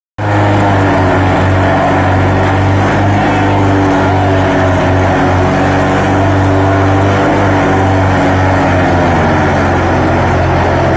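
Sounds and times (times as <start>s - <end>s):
forage chopper chopping: 0.2s - 10.9s
tractor diesel engine drone: 0.2s - 10.9s.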